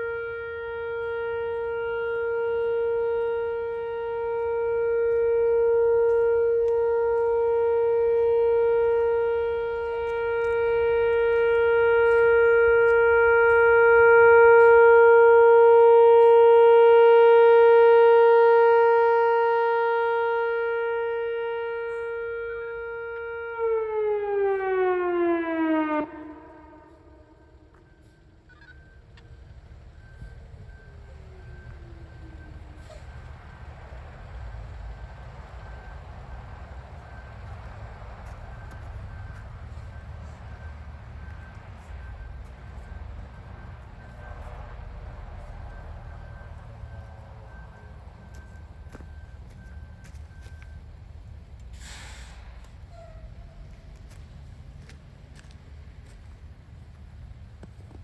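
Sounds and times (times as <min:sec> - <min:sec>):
warning siren steady tone: 0:00.0 - 0:58.0.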